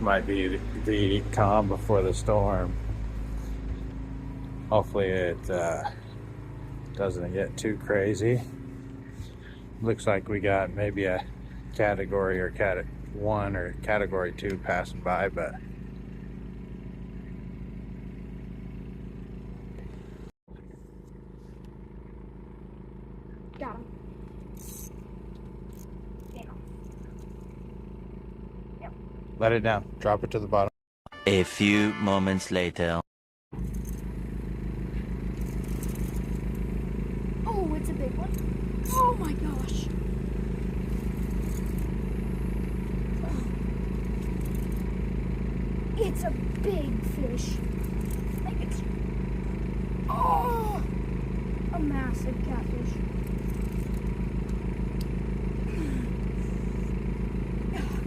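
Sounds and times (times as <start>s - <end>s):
low engine hum: 0.0s - 30.7s, 33.6s - 58.0s.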